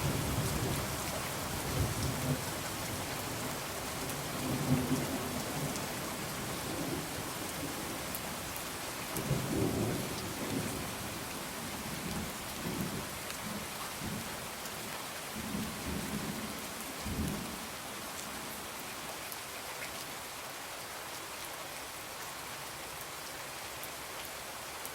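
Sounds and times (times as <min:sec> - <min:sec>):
rain on a window: 0:00.0 - 0:24.9.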